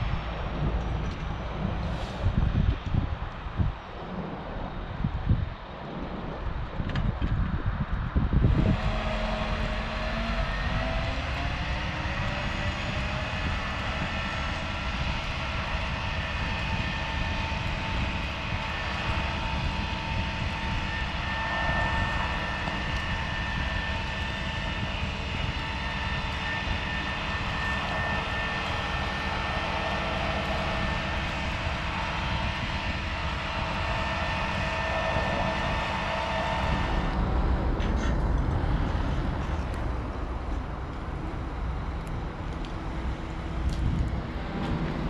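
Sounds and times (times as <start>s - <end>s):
high whine: 0.0s - 45.0s
crane diesel engine revving: 8.5s - 45.0s.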